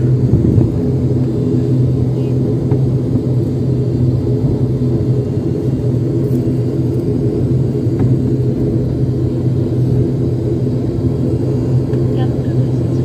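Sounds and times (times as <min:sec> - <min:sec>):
airliner engines droning in cabin: 0:00.0 - 0:13.0.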